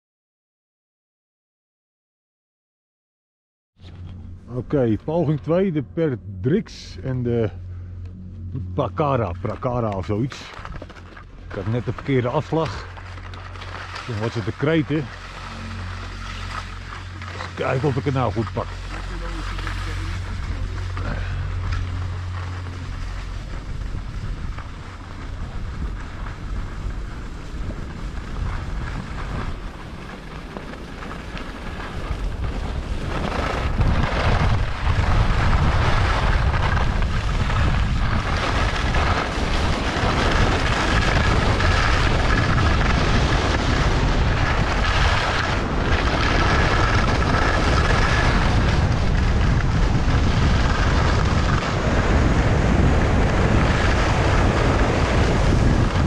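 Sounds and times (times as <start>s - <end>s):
wind buffeting microphone: 3.9s - 56.0s
skis scraping over snow: 8.4s - 56.0s.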